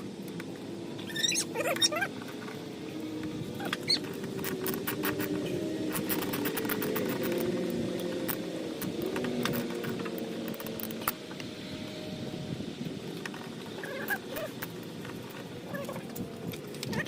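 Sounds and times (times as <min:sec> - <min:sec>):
low wavering hum: 0:00.0 - 0:17.0
hand tools and plastic clicking: 0:00.2 - 0:11.5, 0:13.1 - 0:17.0.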